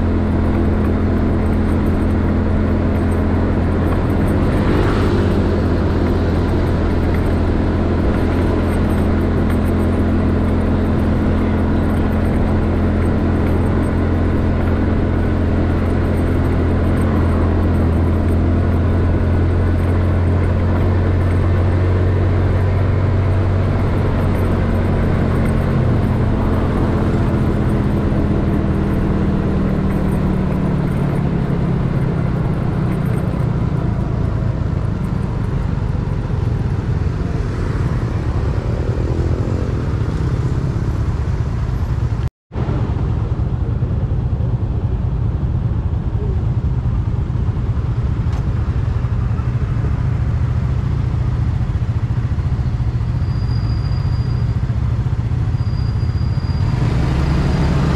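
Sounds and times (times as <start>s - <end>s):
road noise: 0.0s - 57.9s
scooter engine rumble: 0.0s - 57.9s.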